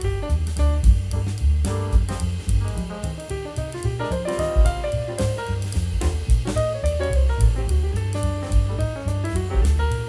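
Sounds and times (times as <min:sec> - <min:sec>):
jazzy instrumental music: 0:00.0 - 0:10.0.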